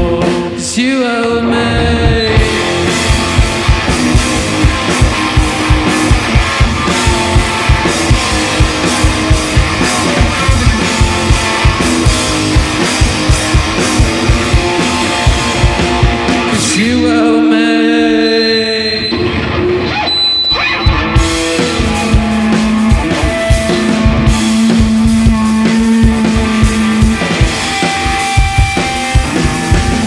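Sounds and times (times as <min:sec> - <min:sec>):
drum kit beat: 0:00.0 - 0:00.6, 0:01.4 - 0:18.7, 0:20.6 - 0:30.0
electric guitar: 0:00.0 - 0:30.0.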